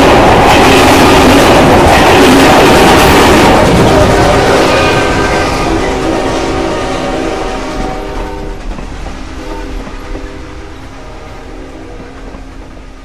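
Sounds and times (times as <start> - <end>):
train horns sounding: 0.0 - 13.0
trains running on track: 0.0 - 13.0.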